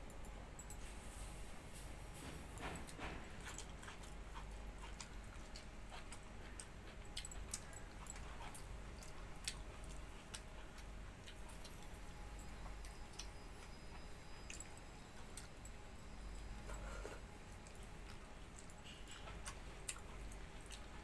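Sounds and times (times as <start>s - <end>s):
person chewing food: 2.3s - 21.0s.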